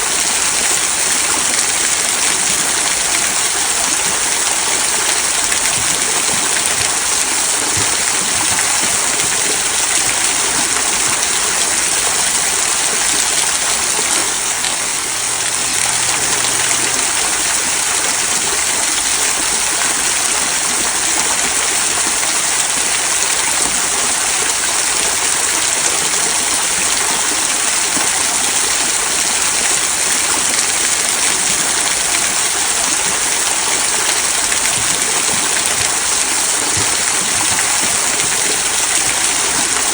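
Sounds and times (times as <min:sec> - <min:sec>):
small waterfall babbling: 0:00.0 - 0:39.9.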